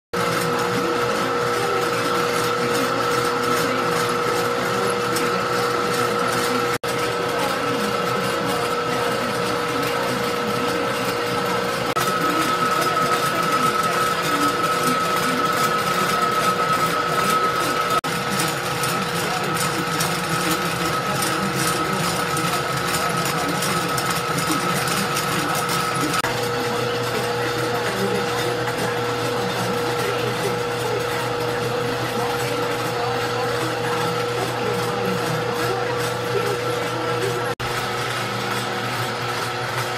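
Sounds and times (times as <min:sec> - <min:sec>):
envelope machine clattering: 0:00.2 - 0:39.9
machine whine: 0:00.2 - 0:39.9.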